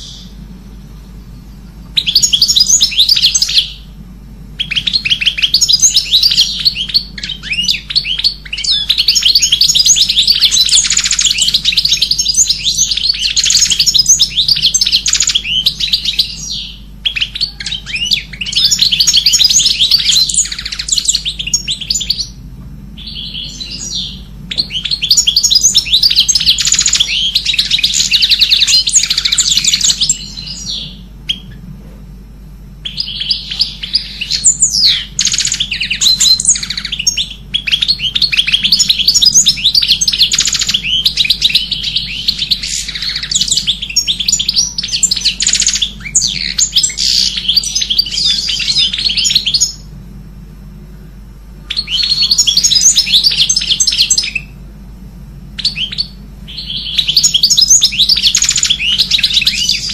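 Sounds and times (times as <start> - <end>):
small birds chirping and twittering: 0.0 - 50.0, 50.8 - 59.9.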